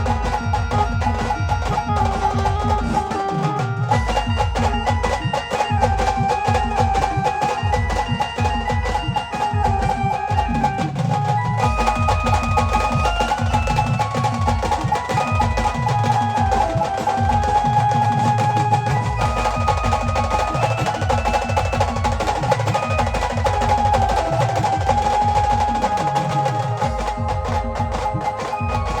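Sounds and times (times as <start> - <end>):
fast continuous drumming: 0.0 - 29.0
held melody notes: 0.0 - 29.0.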